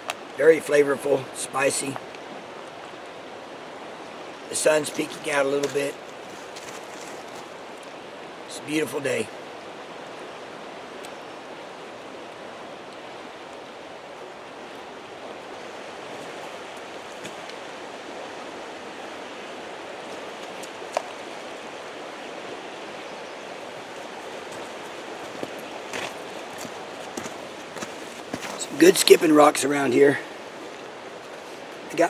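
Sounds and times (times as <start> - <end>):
creek flowing over rocks: 0.0 - 32.0.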